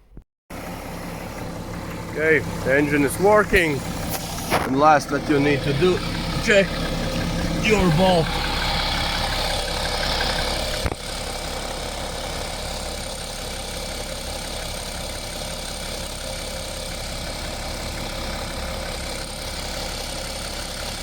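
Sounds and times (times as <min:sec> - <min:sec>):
diesel engine idling: 0:00.5 - 0:21.0.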